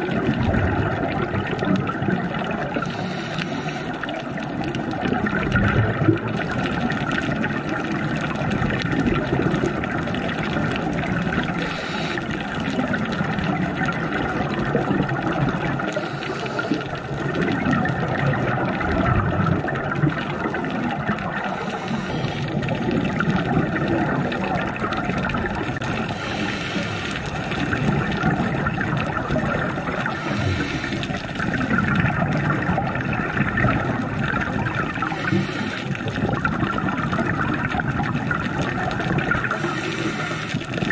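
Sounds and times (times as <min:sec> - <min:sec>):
underwater water gurgling: 0:00.0 - 0:40.9.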